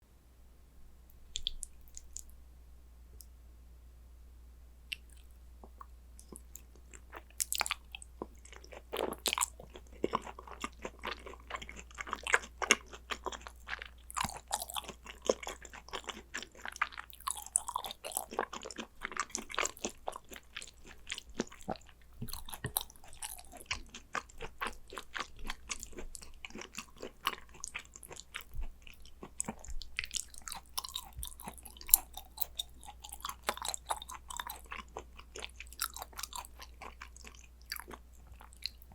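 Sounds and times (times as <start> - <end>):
person chewing: 1.3 - 2.3, 4.9 - 38.9.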